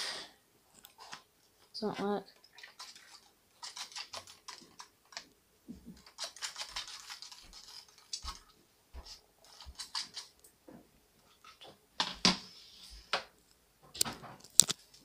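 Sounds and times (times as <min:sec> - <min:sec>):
hands handling objects: 0:00.7 - 0:15.0.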